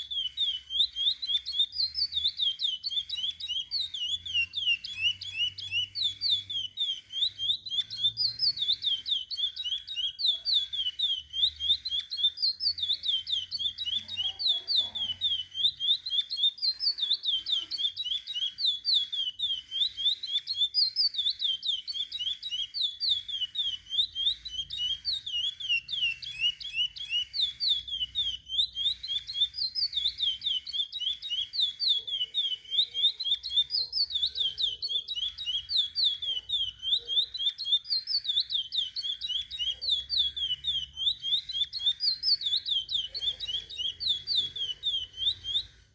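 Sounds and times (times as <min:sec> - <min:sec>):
finch singing whistled notes: 0:00.0 - 0:45.9.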